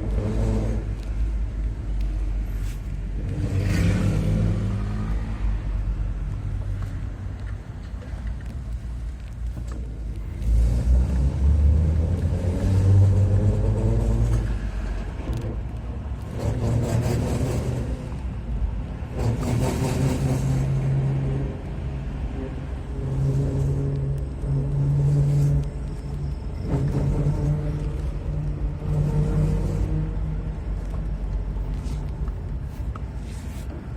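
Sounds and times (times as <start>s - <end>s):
car engine low rumble: 0.0s - 33.9s.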